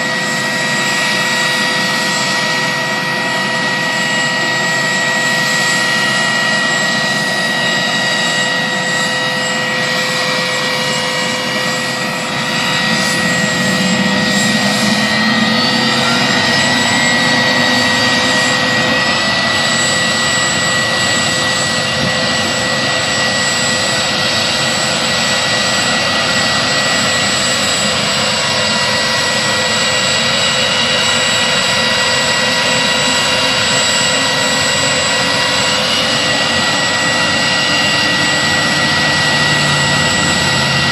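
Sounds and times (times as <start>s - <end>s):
helicopter turbine and rotors: 0.0s - 40.9s.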